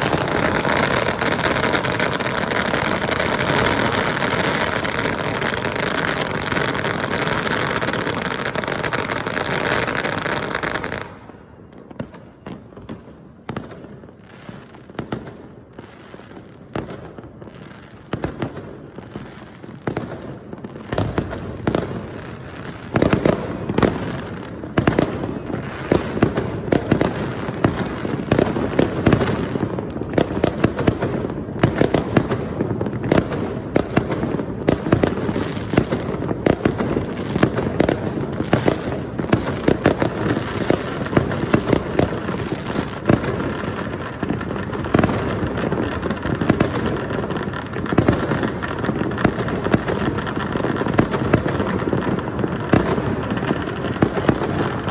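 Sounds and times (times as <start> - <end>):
loud firework reports: 0.0 - 15.3, 20.0 - 54.9
firecrackers crackling: 0.0 - 54.9.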